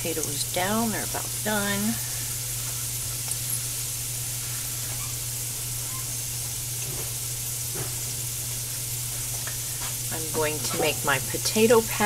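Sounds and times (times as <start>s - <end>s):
food sizzling in oil: 0.0s - 12.0s
steady low hum: 0.0s - 12.0s.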